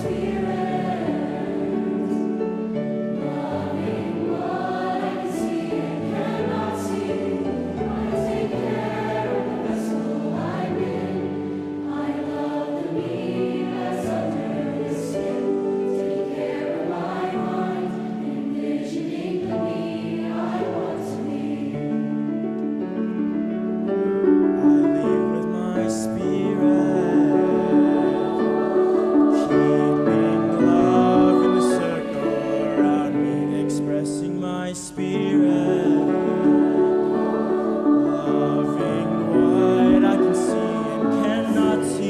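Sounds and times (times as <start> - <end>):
youth choir singing: 0.0 - 22.4, 24.7 - 42.0.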